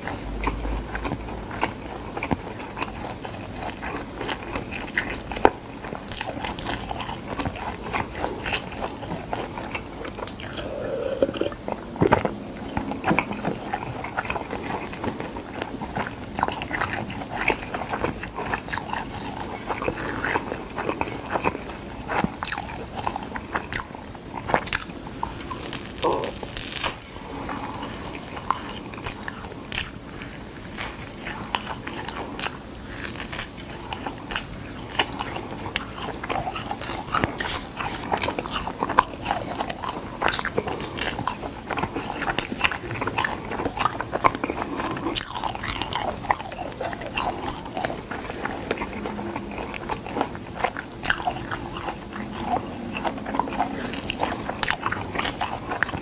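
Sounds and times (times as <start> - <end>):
seaweed crunching while chewed: 0.0 - 56.0.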